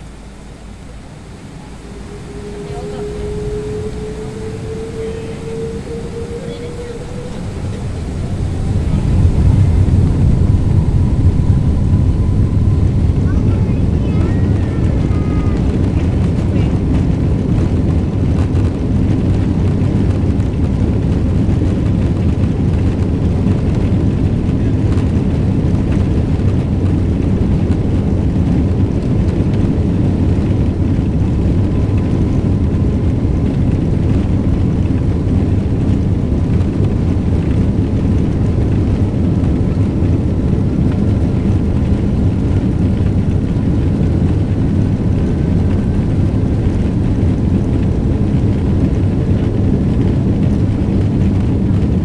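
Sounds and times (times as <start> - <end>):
faint rising whine: 0.0 - 52.0
jet engines roaring: 0.0 - 52.0.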